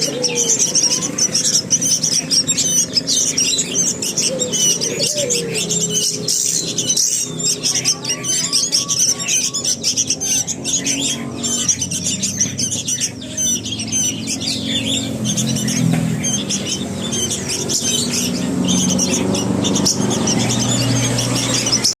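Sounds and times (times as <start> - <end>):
bird chicks chirping harshly: 0.0 - 22.0.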